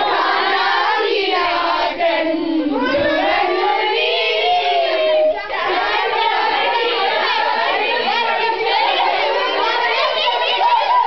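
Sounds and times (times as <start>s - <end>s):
group singing: 0.0s - 11.0s.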